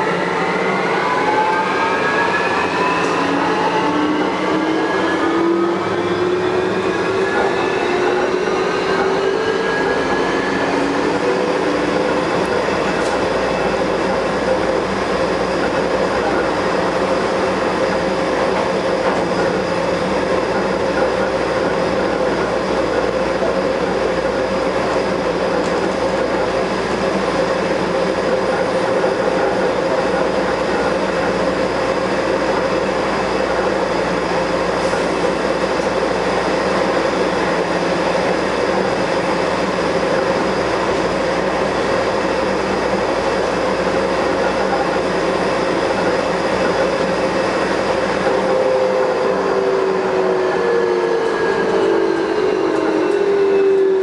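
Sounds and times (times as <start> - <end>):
train rumbling: 0.0 - 54.0
train whine of held tones: 0.0 - 54.0.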